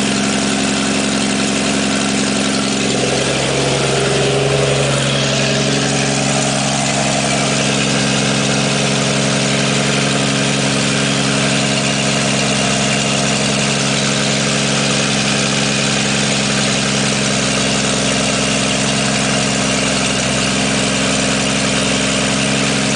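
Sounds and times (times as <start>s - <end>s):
car engine running smoothly: 0.0s - 22.9s.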